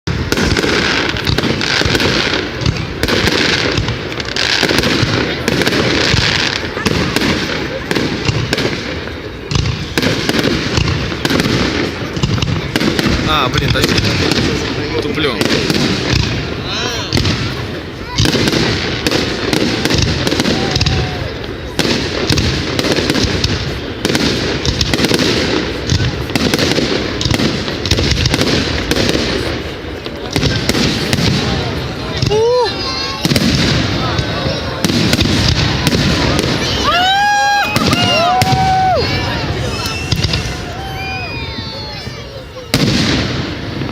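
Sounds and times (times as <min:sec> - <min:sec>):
fireworks crackling and popping: 0:00.0 - 0:43.9.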